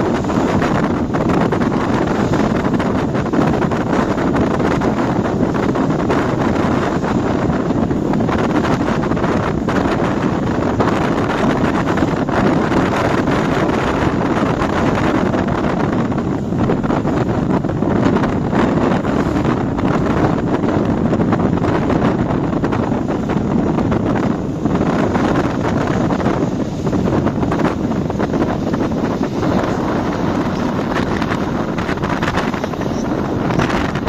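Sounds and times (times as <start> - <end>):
water: 0.0 - 34.0
wind buffeting microphone: 0.0 - 34.0.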